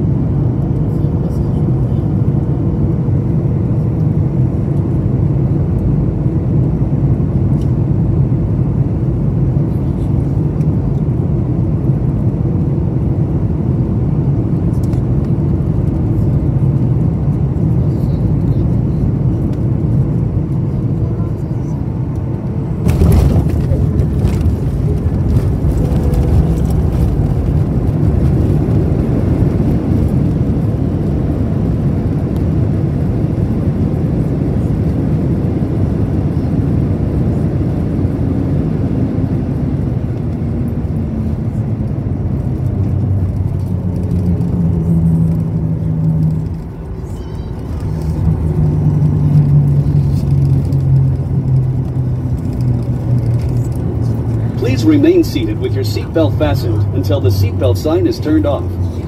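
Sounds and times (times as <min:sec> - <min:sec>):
jet engine and rolling rumble: 0:00.0 - 0:59.0
low droning engine tone: 0:00.0 - 0:59.0.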